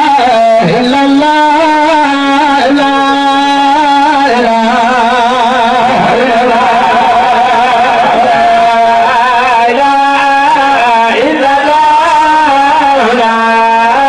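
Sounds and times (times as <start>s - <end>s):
person chanting: 0.0s - 14.0s.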